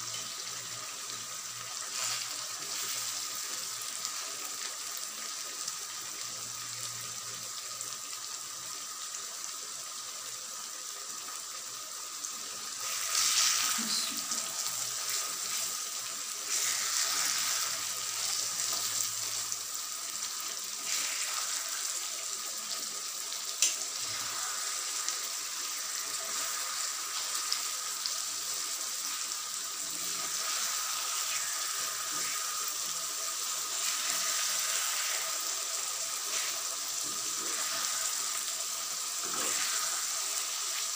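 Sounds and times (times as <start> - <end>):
curry sizzling and bubbling in pan: 0.0 - 40.9.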